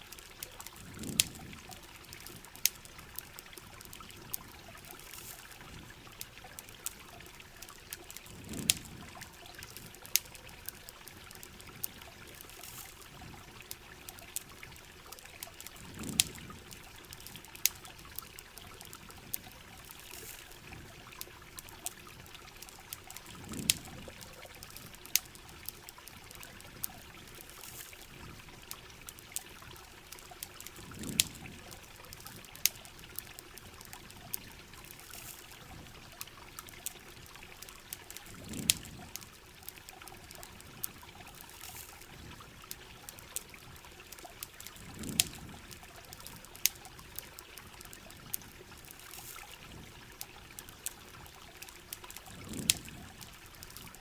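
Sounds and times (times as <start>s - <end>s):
sharp pops and ticks: 0.0s - 54.0s
trickling water: 0.0s - 54.0s.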